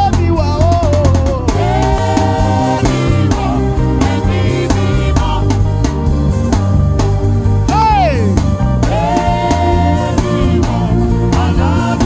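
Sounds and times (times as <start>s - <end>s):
gospel band playing: 0.0s - 12.0s.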